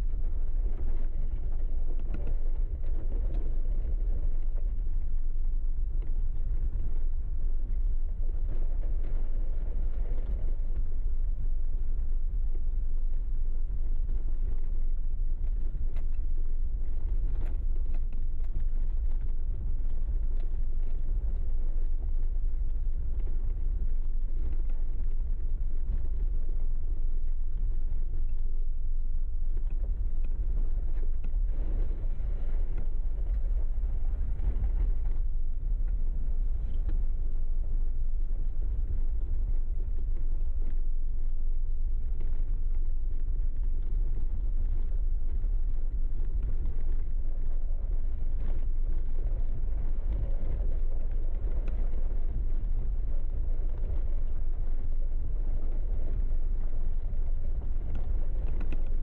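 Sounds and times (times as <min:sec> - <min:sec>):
vehicle engine and tyres rumbling: 0:00.0 - 0:59.0.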